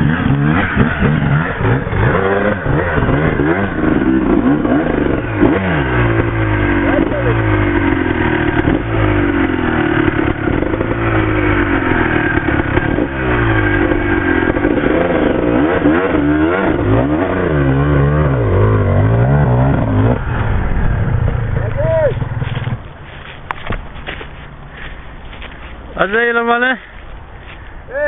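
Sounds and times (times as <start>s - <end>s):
dirt bike engine revving: 0.0s - 24.2s.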